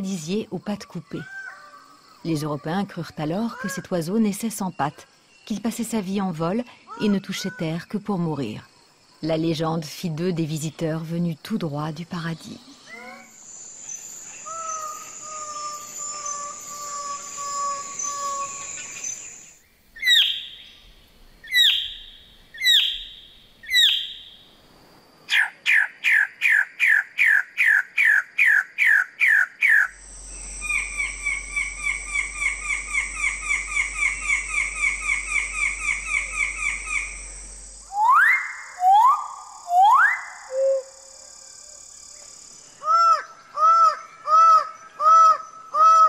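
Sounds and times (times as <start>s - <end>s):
high insect-like tones: 0.0s - 43.5s
forest bird calls: 1.0s - 5.7s, 12.4s - 24.5s, 25.3s - 46.0s.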